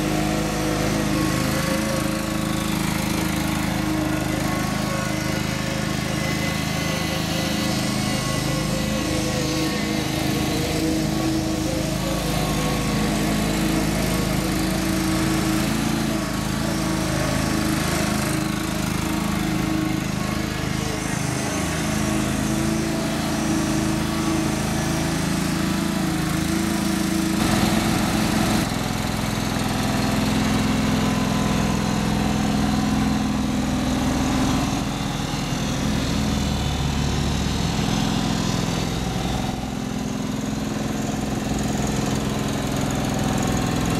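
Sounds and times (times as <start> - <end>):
riding mower engine running: 0.0 - 43.9.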